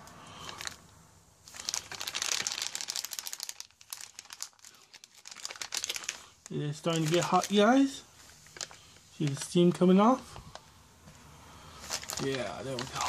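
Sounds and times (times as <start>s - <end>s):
plastic sleeve crinkling: 0.4s - 0.8s, 1.4s - 10.7s, 11.7s - 13.0s.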